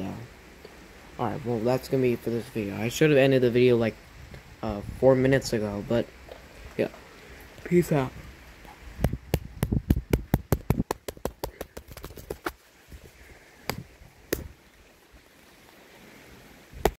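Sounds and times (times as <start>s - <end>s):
faint rain hiss: 0.0s - 17.0s.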